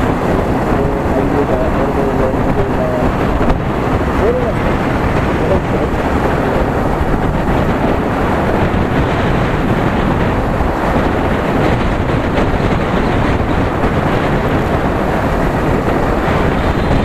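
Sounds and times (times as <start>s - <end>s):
motorcycle engine running: 0.0s - 17.0s
wind on microphone: 0.0s - 17.0s.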